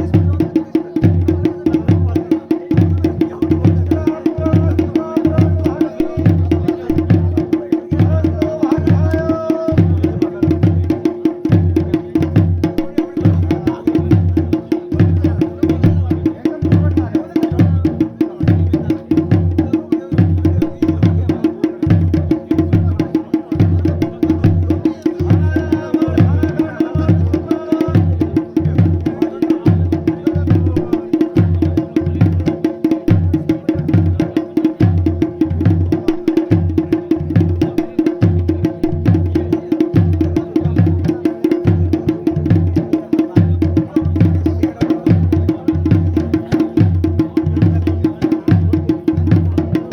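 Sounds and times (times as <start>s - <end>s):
fast drumming: 0.0s - 49.9s.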